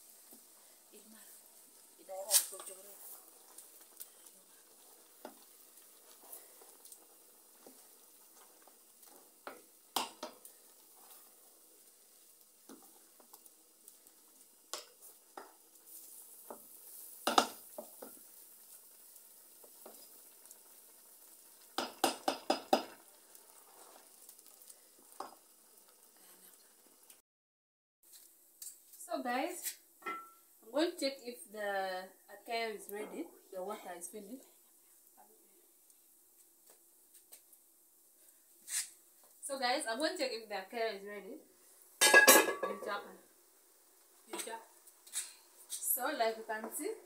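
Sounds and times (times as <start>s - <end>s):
faint sizzle from pot: 0.0s - 27.2s, 28.0s - 47.0s.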